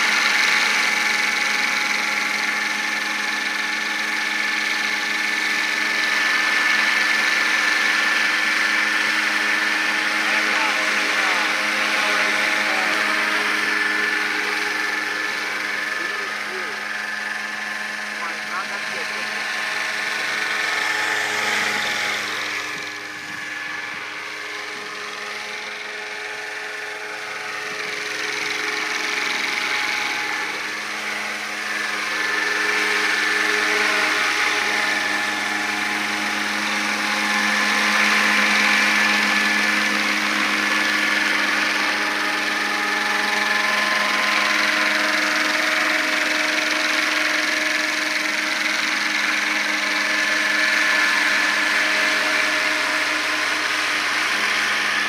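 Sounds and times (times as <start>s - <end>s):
model helicopter rotor whine: 0.0s - 55.0s.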